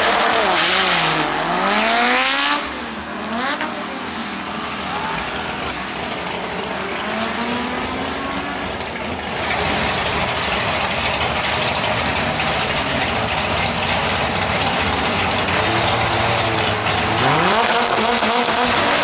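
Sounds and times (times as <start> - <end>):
car engines running: 0.0 - 19.0.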